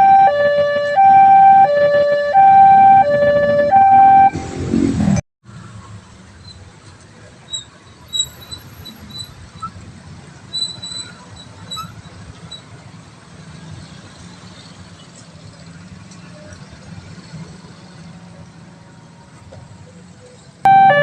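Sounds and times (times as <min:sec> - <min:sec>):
low rumble of road vehicles: 0:00.0 - 0:21.0.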